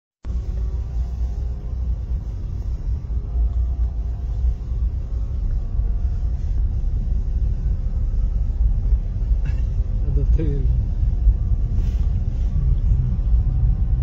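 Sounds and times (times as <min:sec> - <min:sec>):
car driving slowly: 0:00.2 - 0:14.0.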